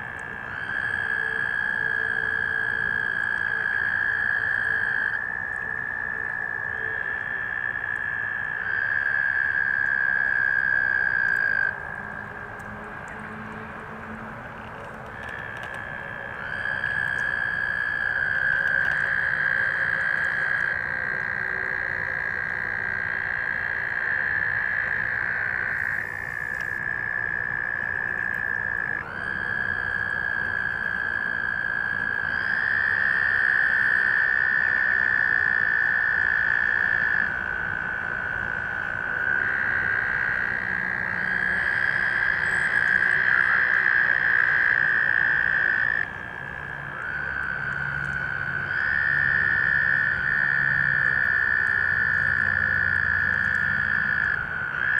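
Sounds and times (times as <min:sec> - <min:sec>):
toads trilling: 0:00.0 - 0:12.6, 0:14.8 - 0:54.9.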